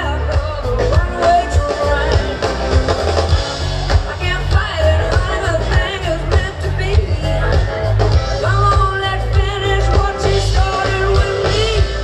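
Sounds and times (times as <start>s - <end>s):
person singing: 0.0s - 3.0s, 3.9s - 12.0s
live rock band playing: 0.0s - 12.0s.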